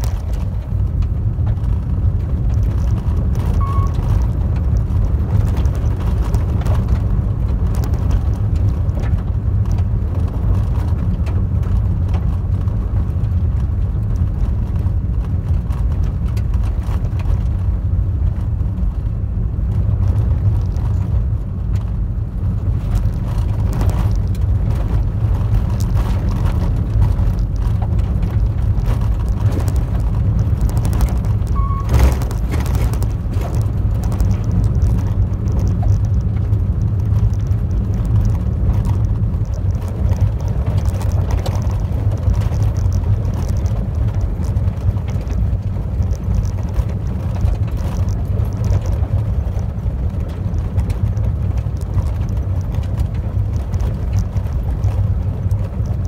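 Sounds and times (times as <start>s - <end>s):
car tyres and engine rumble: 0.0s - 56.0s
gravel crackling under tyres: 0.0s - 56.0s.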